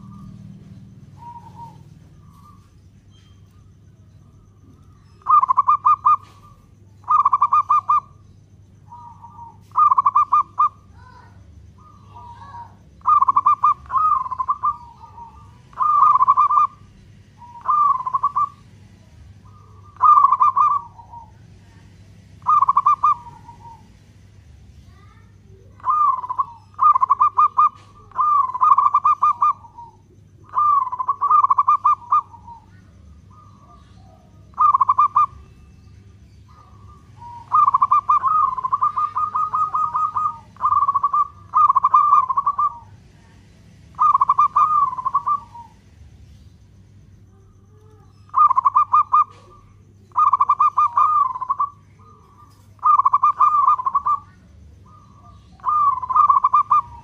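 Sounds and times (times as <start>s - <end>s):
dove cooing: 0.0s - 57.0s
faint low hum: 0.0s - 57.0s.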